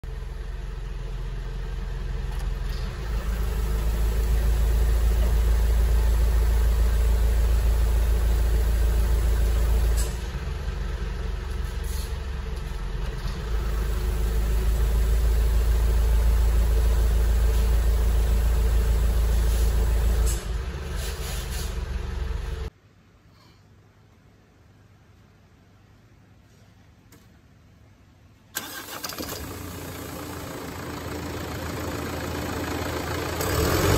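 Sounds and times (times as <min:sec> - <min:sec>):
diesel truck engine idling: 0:00.0 - 0:22.7, 0:28.6 - 0:33.9.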